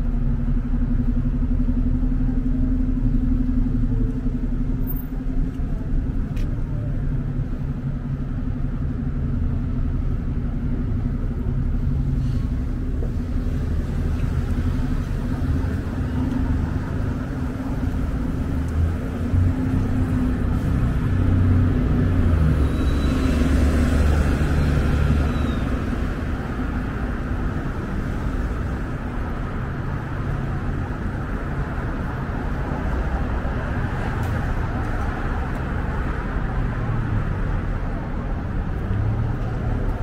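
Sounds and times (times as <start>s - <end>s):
bus engine rumbling: 0.0s - 40.0s
street traffic: 0.0s - 40.0s.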